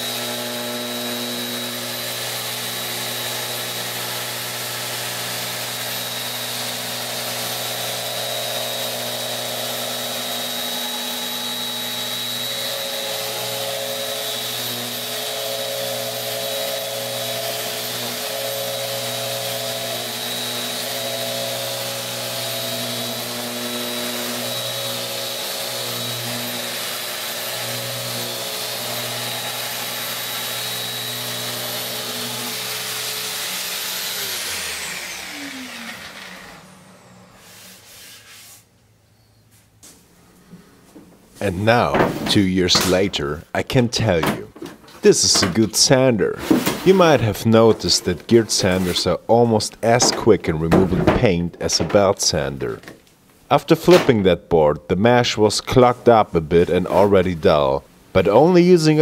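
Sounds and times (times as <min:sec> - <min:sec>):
sander sanding wood: 0:00.0 - 0:38.8, 0:41.4 - 0:52.8, 0:53.5 - 0:59.0.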